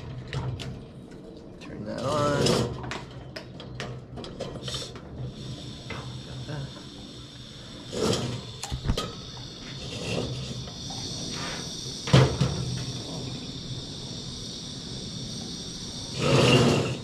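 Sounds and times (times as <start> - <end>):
gas burner hissing: 1.9 - 17.0.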